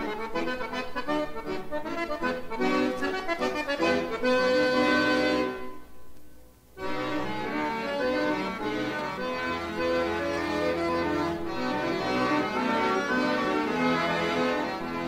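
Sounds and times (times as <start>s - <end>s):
classical accordion music: 0.0s - 6.0s, 6.7s - 15.0s.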